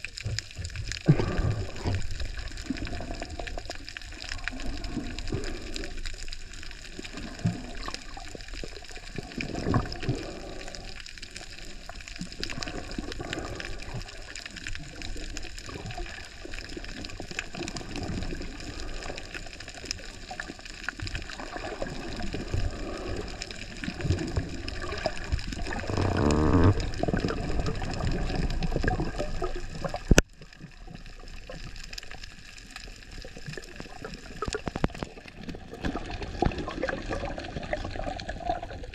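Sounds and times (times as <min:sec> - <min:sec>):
underwater sloshing and gurgling: 0:00.0 - 0:38.9.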